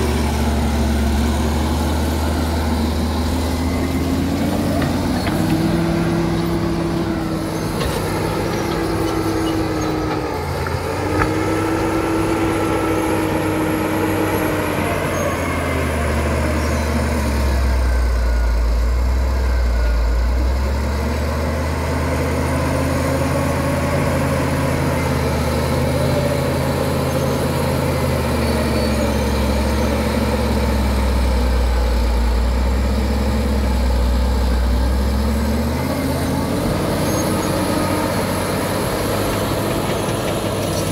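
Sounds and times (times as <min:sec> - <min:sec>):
bulldozer diesel engine working: 0:00.0 - 0:40.9.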